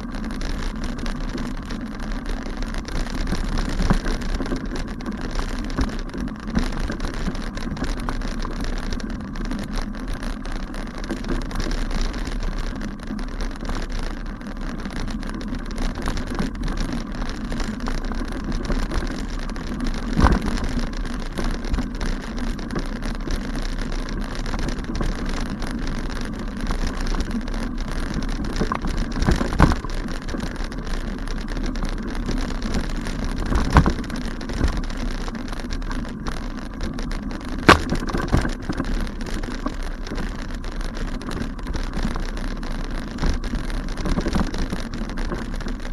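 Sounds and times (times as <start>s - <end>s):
bike rattling over bumpy grass: 0.0s - 45.9s.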